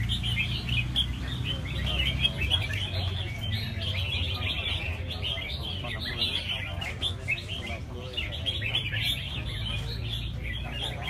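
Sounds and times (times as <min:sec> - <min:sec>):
birds chirping and warbling: 0:00.0 - 0:11.0.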